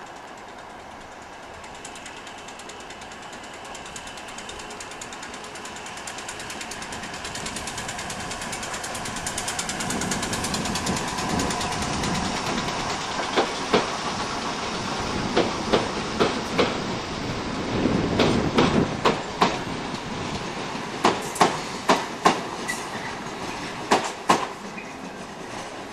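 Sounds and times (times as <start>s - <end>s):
electric train passing: 0.0s - 25.9s.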